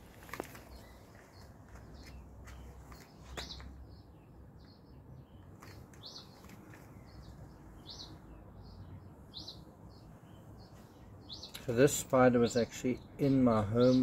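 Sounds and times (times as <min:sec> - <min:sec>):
small birds chirping faintly: 0:00.0 - 0:14.0.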